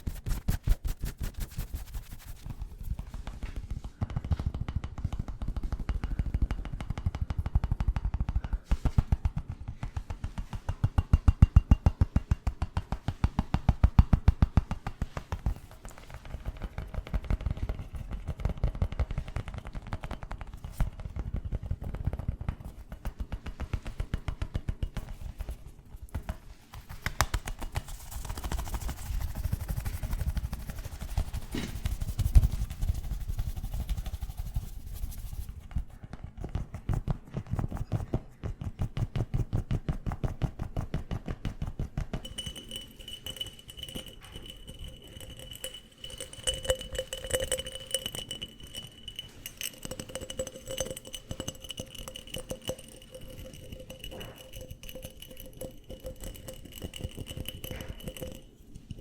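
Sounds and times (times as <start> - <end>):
fingertip tapping and scratching: 0.0 - 59.0.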